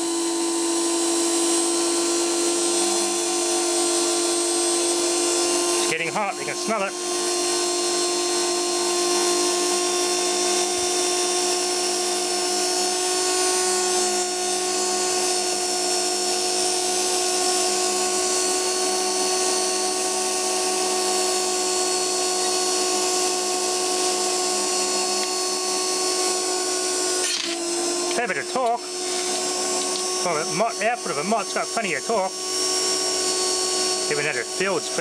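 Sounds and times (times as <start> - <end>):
small motor whine: 0.0 - 35.0.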